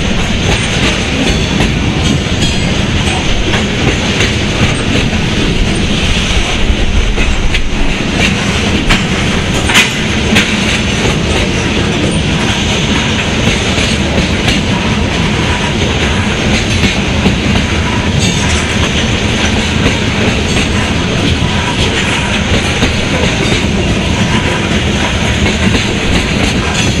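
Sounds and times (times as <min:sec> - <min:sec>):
freight train rolling past: 0:00.0 - 0:27.0
steel wheels rumbling on rails: 0:00.0 - 0:27.0.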